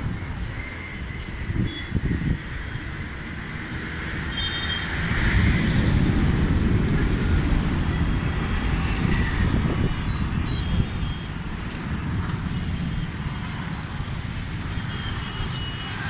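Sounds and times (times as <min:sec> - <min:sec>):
motorcycles passing: 0:00.0 - 0:16.0
road traffic rumble: 0:00.0 - 0:16.0.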